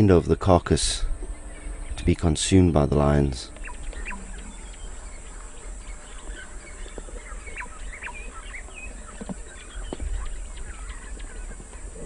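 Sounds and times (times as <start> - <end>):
birds chirping and whistling: 0.0 - 12.0
steady low rumble: 0.0 - 12.0.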